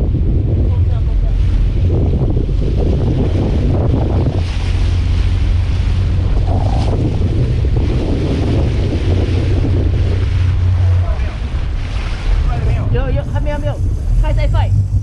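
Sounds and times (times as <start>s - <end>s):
sea washing around boat: 0.0s - 15.0s
steady low rumble: 0.0s - 15.0s
wind buffeting microphone: 0.0s - 15.0s.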